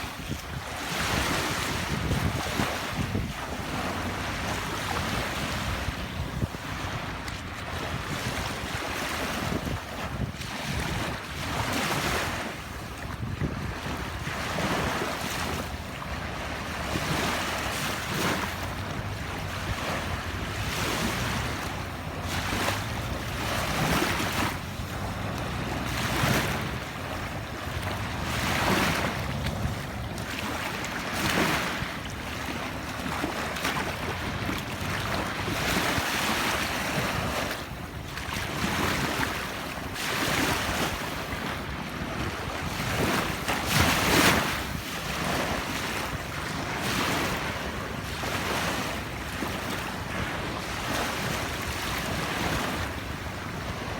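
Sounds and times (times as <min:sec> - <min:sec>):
waves washing onto beach: 0:00.0 - 0:53.9
wind on microphone: 0:00.0 - 0:53.9.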